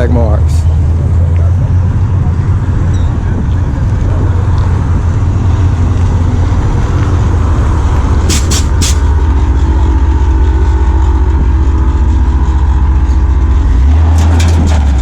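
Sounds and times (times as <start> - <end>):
car engine deep rumble: 0.0 - 15.0.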